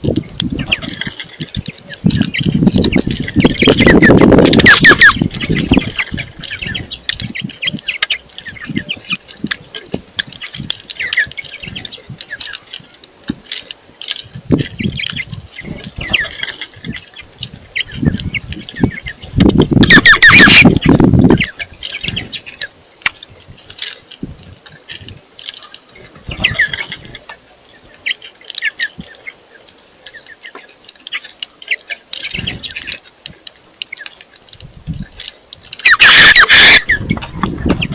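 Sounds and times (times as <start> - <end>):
small birds chirping: 0.1 - 24.1, 24.7 - 37.9.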